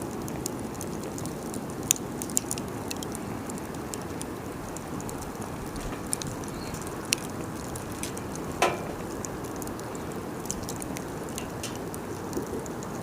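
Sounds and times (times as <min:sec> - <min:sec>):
fire snaps and pops: 0:00.0 - 0:13.0
low rush of burning: 0:00.1 - 0:13.0.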